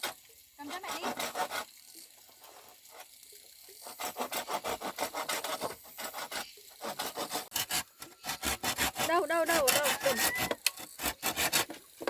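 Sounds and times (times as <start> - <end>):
hand saw cutting wood: 0.0 - 1.8, 2.4 - 12.0.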